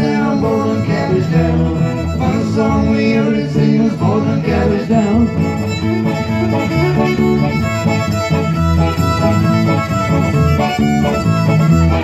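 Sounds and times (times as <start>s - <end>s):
bowed fiddle: 0.0s - 12.0s
electric guitar accompaniment: 0.0s - 12.0s.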